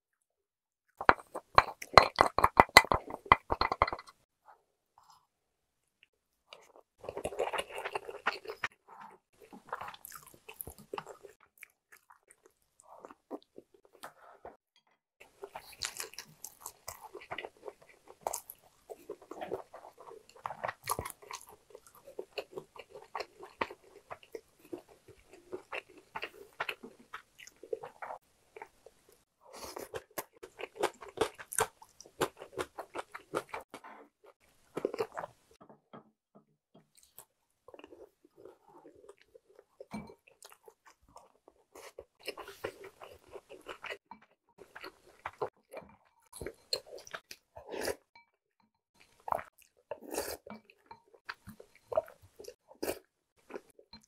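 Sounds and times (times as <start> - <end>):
person chewing crunchy food: 1.0 - 4.2, 6.5 - 14.6, 15.2 - 35.6, 36.9 - 48.2, 49.0 - 54.0.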